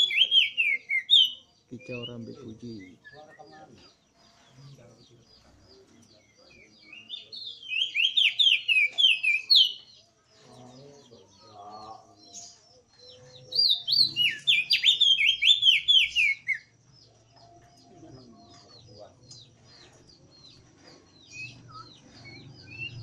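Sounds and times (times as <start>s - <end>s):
bird singing whistled notes: 0.0s - 3.6s, 5.0s - 10.0s, 11.1s - 18.5s, 19.3s - 23.0s
faint chirps of other birds: 0.0s - 23.0s.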